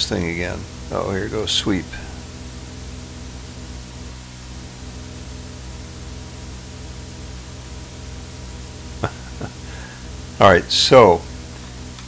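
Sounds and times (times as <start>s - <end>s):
low electrical hum: 0.0s - 12.0s
steady hiss: 0.0s - 12.0s.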